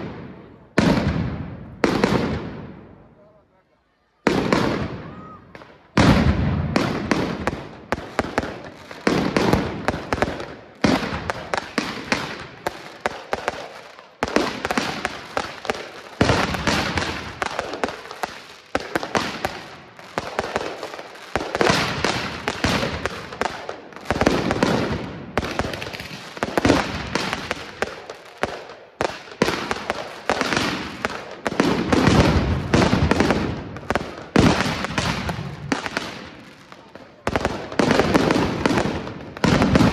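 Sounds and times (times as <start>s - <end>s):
fireworks bangs: 0.0s - 3.3s, 4.1s - 39.9s
fireworks crackling: 0.0s - 3.5s, 4.2s - 39.9s.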